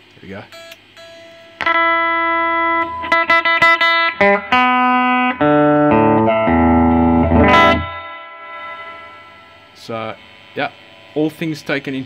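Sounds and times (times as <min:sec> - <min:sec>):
electric guitar playing: 0:00.7 - 0:11.5.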